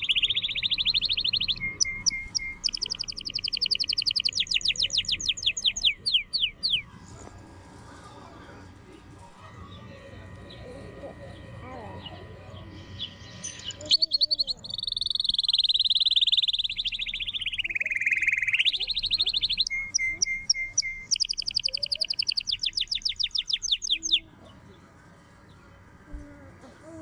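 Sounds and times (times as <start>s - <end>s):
canary singing trills: 0.0s - 6.9s, 9.6s - 26.0s.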